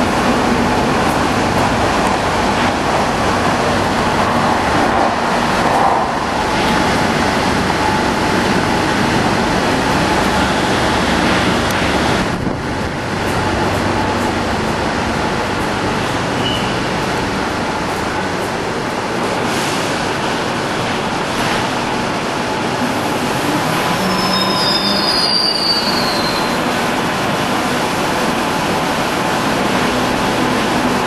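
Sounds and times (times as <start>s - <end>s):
train rumble and hiss: 0.0s - 31.0s.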